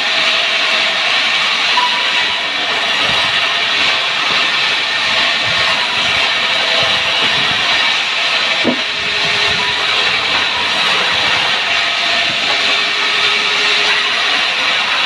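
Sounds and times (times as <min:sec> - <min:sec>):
power wood saw running: 0:00.0 - 0:15.0.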